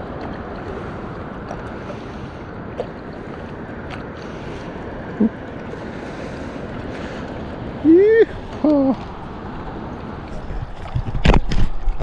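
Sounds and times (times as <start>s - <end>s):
lake water washing: 0.0s - 12.0s
wind noise on microphone: 0.0s - 12.0s.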